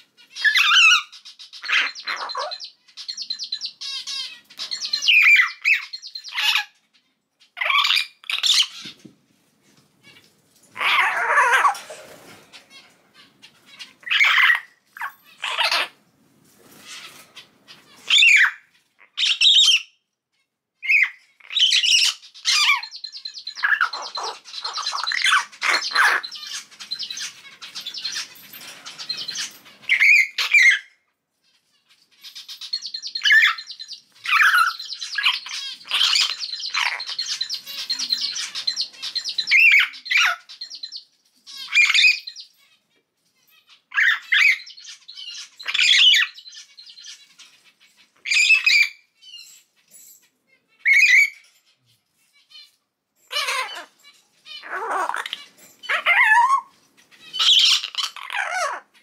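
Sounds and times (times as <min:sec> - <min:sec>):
harsh rasping bird chatter: 0:00.0 - 0:09.0, 0:10.0 - 0:16.0, 0:20.8 - 0:30.9, 0:31.5 - 0:42.8, 0:43.4 - 0:49.8, 0:53.3 - 0:59.0.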